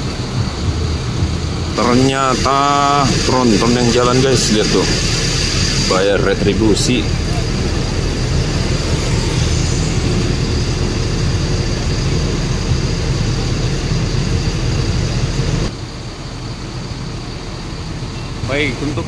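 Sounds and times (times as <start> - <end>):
diesel engine rumbling: 0.0 - 19.0
engine and traffic background: 0.0 - 19.0.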